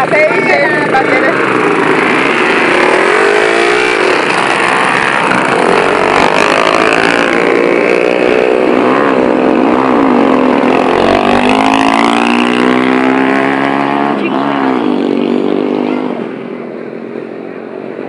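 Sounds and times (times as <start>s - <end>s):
off-road buggy engines revving: 0.0s - 18.0s.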